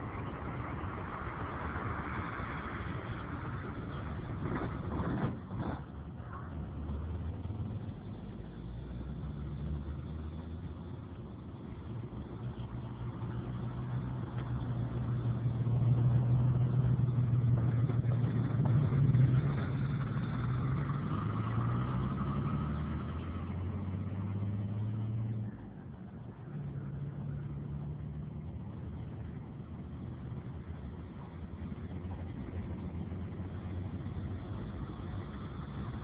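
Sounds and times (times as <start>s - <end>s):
diesel locomotive engine hum: 0.0s - 36.0s.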